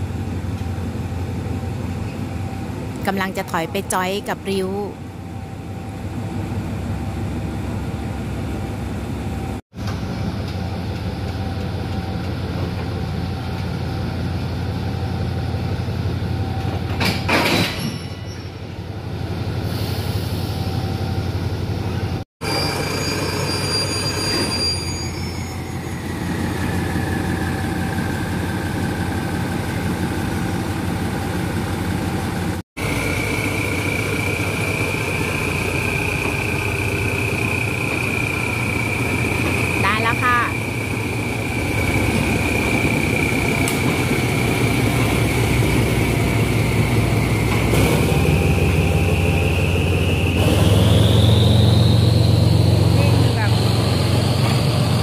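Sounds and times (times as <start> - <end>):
locomotive engine humming: 0.0 - 17.3, 25.6 - 55.0.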